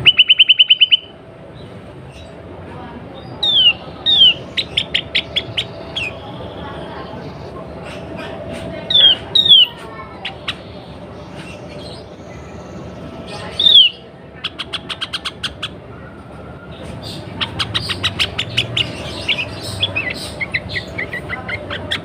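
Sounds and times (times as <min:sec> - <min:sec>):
bird chattering: 0:00.0 - 0:22.0.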